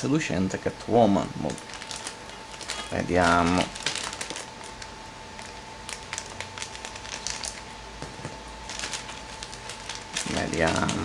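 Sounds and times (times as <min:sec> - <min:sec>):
plastic bag crinkling: 0:01.4 - 0:11.0.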